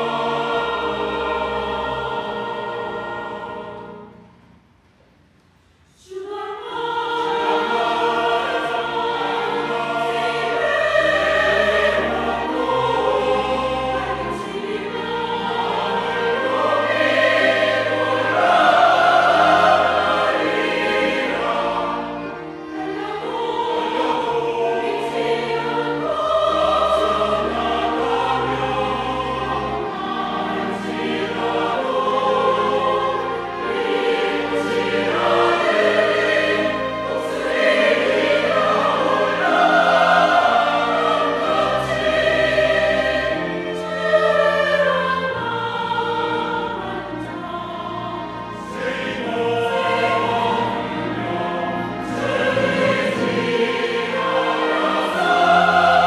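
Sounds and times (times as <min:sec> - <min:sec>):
choir singing: 0:00.0 - 0:04.6, 0:05.9 - 0:56.0
instrumental accompaniment: 0:00.0 - 0:56.0.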